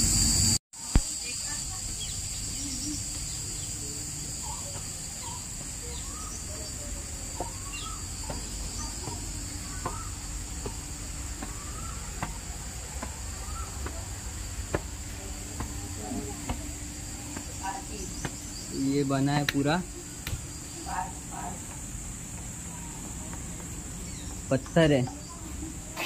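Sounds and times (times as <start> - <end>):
high-pitched insect drone: 0.0 - 26.0
birds chirping: 1.2 - 26.0.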